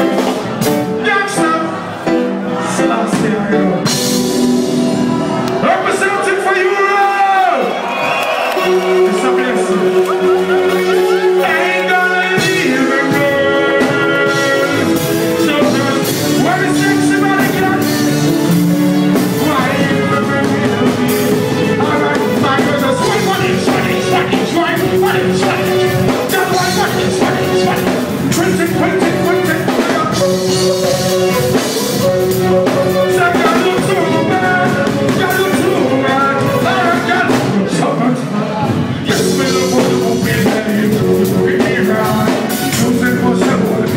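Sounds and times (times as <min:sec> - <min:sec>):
live reggae band with drums: 0:00.0 - 0:43.9
person singing: 0:08.6 - 0:43.9.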